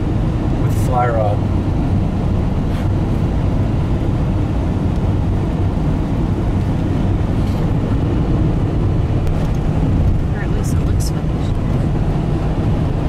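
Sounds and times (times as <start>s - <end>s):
engine drone: 0.0s - 13.0s
tyre and road noise: 0.0s - 13.0s.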